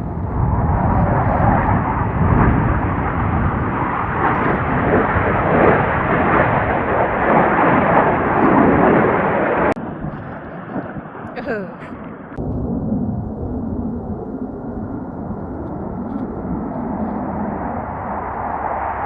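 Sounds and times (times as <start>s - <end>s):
jet engine roar: 0.0s - 11.3s, 12.0s - 19.0s.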